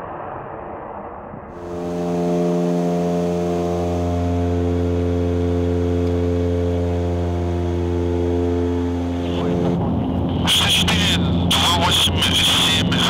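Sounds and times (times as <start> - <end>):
turboprop engines droning: 1.5 - 13.0.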